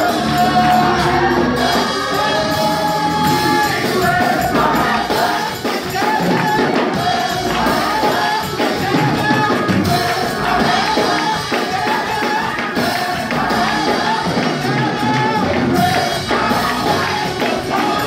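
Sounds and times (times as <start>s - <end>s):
drum kit: 0.0s - 18.0s
gospel choir singing: 0.0s - 18.0s.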